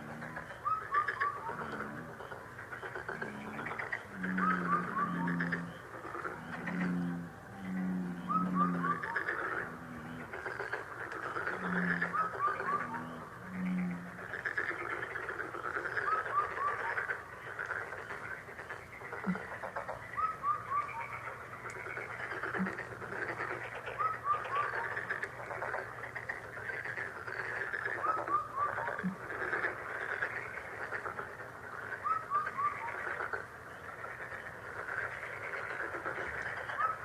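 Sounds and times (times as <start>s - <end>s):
frogs croaking in chorus: 0.0s - 37.0s.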